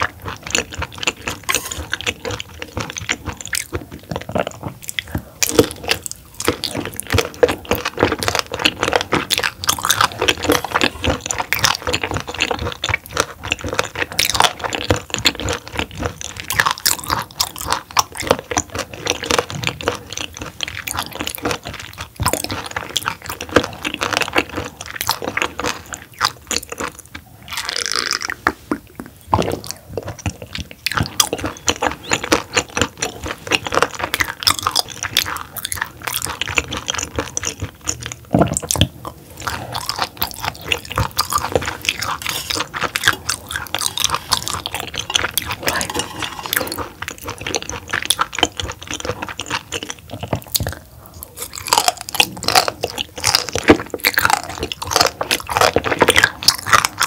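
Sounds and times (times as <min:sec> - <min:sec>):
chewing with mouth clicks: 0:00.0 - 0:57.0.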